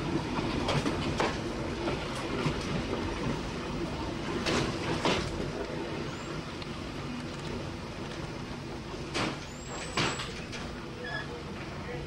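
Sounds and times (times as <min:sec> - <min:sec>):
wheels clacking over rail joints: 0:00.0 - 0:11.8
train wheels rumbling on rail: 0:00.0 - 0:12.0.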